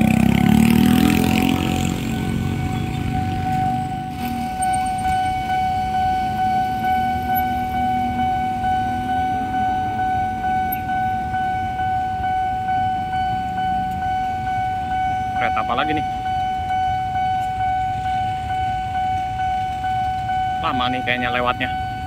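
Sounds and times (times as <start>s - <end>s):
crossing alarm high electronic tone: 0.0s - 22.0s
low traffic rumble: 0.0s - 22.0s.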